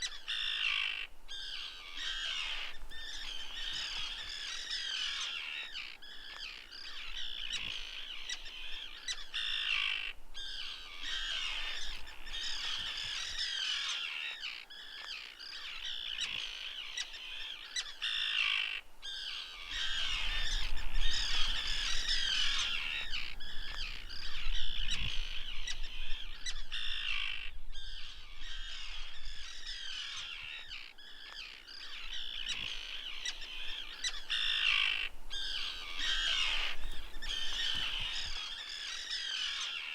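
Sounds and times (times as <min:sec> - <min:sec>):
birds squawking and chirping: 0:00.0 - 0:39.9.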